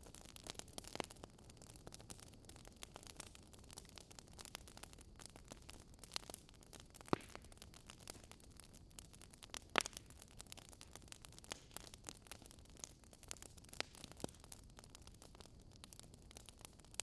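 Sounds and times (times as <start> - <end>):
faint steady fire hiss: 0.0 - 17.0
wood fire crackling and popping: 0.0 - 17.0.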